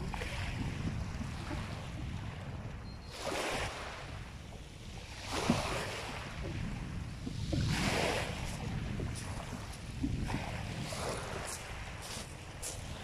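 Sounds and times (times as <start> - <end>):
waves washing on shingle: 0.0 - 13.0
wind rumble on microphone: 0.0 - 13.0.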